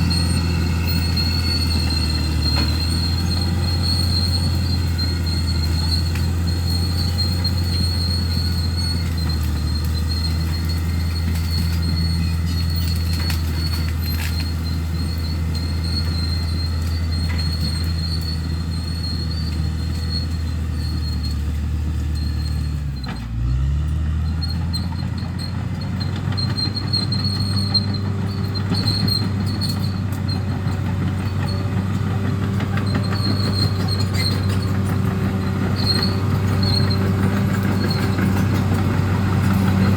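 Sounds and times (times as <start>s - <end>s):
high squeal: 0.0s - 23.3s, 24.2s - 39.9s
bulldozer diesel engine: 0.0s - 39.9s.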